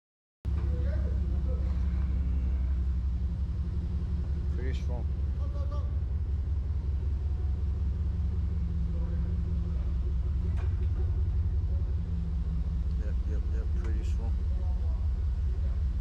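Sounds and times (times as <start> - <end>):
vehicle engine idling: 0.5 - 16.0.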